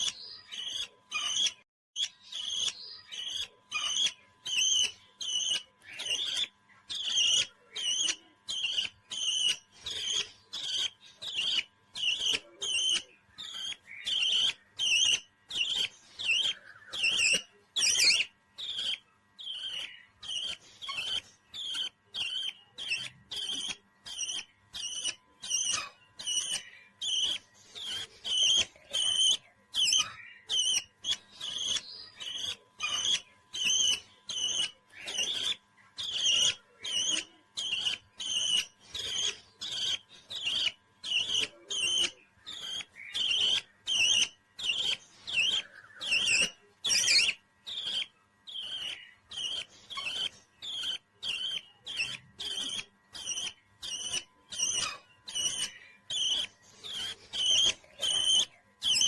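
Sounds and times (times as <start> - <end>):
parrot chirping: 0.0 - 59.0.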